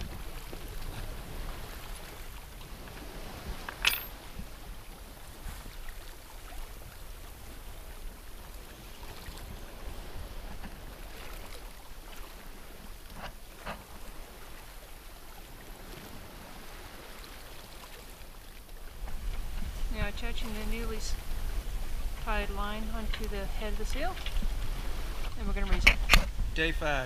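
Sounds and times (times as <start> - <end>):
water washing around a boat: 0.0 - 27.0
wind: 0.0 - 27.0.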